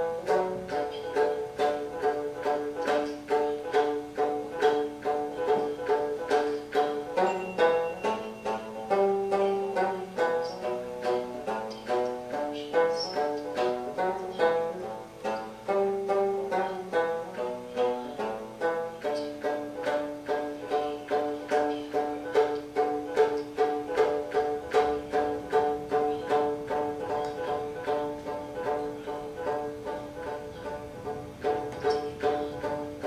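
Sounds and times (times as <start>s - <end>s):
plucked string instrument music: 0.0s - 33.0s.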